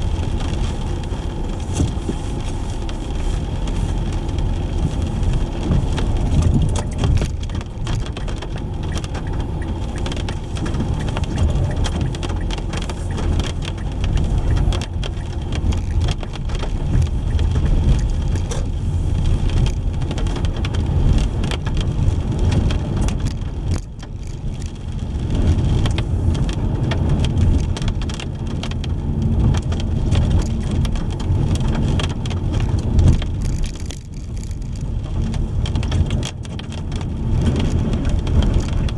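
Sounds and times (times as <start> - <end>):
car road rumble: 0.0 - 38.9
raindrop ticks: 0.0 - 38.9.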